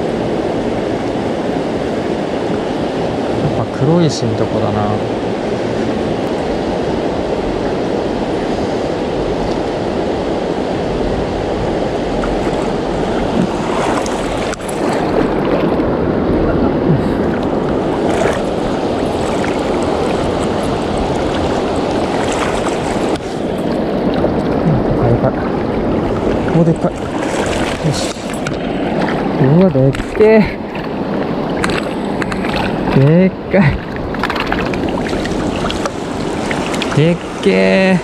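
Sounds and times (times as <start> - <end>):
river rushing over stones: 0.0 - 38.0.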